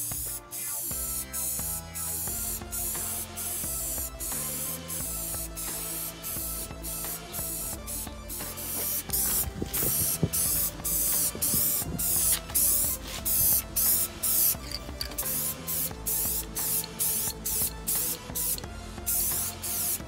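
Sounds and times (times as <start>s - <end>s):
aerosol spray can hissing: 0.0s - 20.0s.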